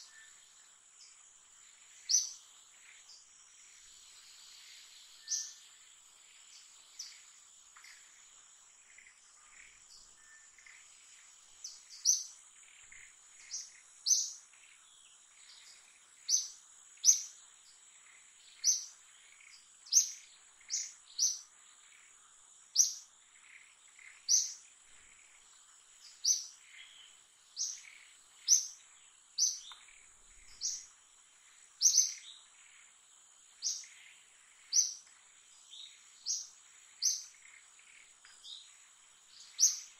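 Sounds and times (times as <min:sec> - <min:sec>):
bird chirping: 0:00.0 - 0:39.9
insect drone: 0:00.0 - 0:39.9.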